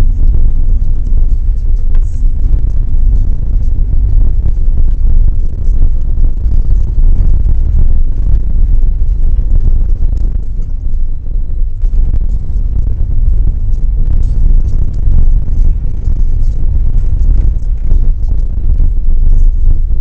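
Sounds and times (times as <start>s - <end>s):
low road rumble: 0.0s - 20.0s
wind noise: 0.0s - 20.0s.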